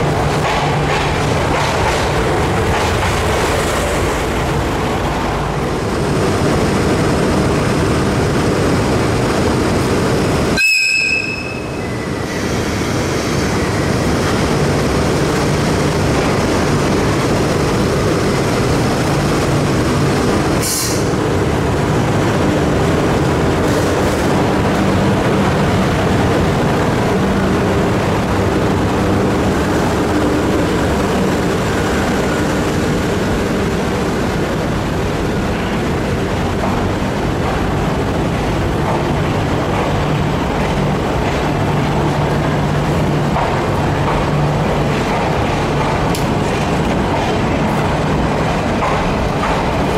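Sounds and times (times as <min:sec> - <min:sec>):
electric locomotive humming: 0:00.0 - 0:49.9
passenger coaches rolling past: 0:00.0 - 0:49.9.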